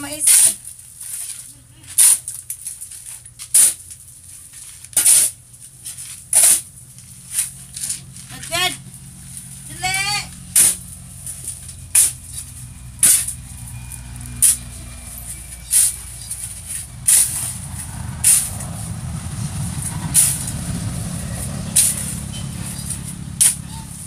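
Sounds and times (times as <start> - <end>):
metal shovel scraping concrete: 0.0 - 24.0.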